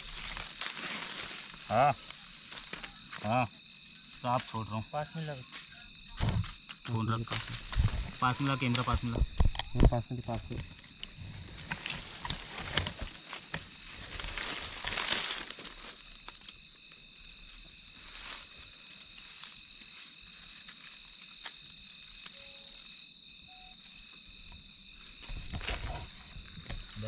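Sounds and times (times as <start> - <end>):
rustling and crinkling: 0.0 - 4.6, 5.4 - 27.0.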